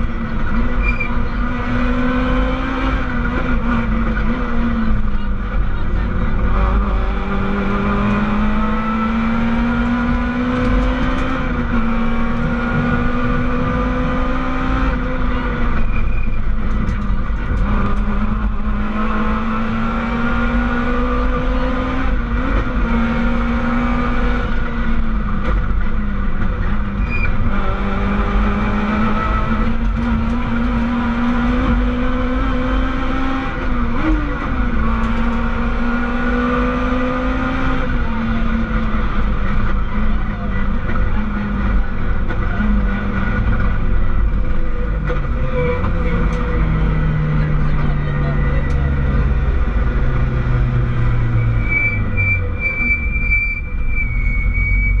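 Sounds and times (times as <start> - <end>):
car engine at high revs: 0.0 - 55.0
road and tyre rumble: 0.0 - 55.0.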